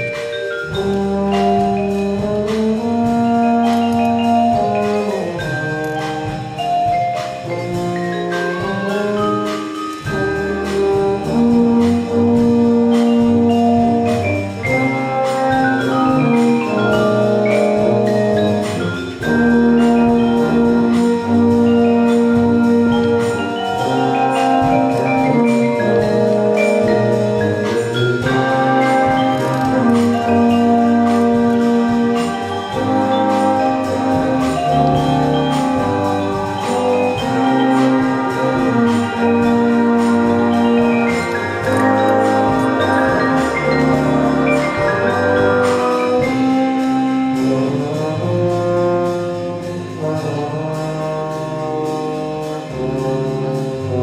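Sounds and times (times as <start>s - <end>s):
brass band chords: 0.0s - 54.0s
marimba and xylophone: 0.0s - 54.0s.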